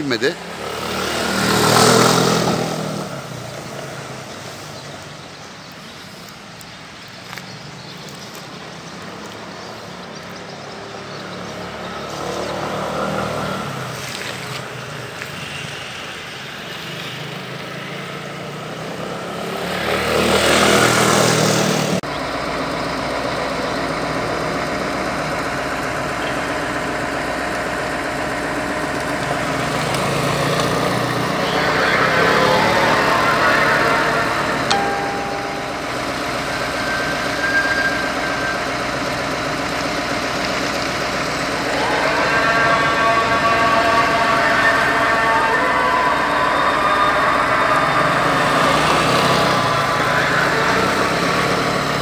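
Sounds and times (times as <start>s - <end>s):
scooter engine passing: 0.0s - 5.4s, 7.3s - 22.1s, 22.8s - 52.0s.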